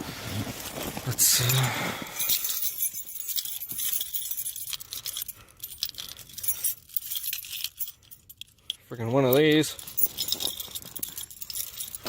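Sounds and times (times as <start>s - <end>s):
keys jangling: 1.2s - 12.0s.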